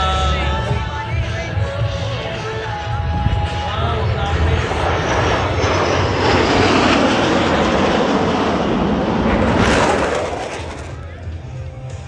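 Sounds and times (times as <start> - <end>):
jet roar overhead: 0.0 - 12.0.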